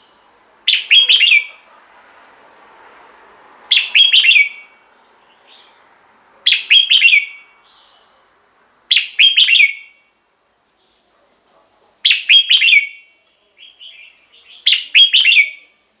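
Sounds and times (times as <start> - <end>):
bulbul singing: 0.0 - 10.1, 12.0 - 15.9.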